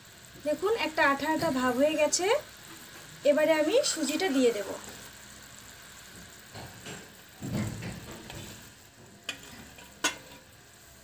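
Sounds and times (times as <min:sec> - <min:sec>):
syrup bubbling in a pan: 0:00.0 - 0:11.0.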